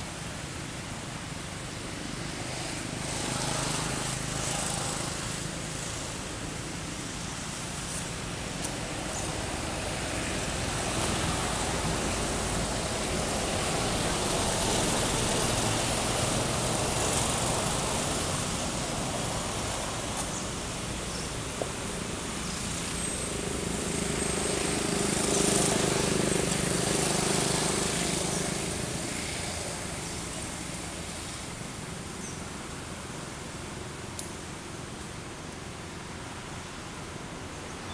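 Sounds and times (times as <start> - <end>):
vehicle engine hum: 0.0 - 37.8
road traffic passing: 0.0 - 37.9.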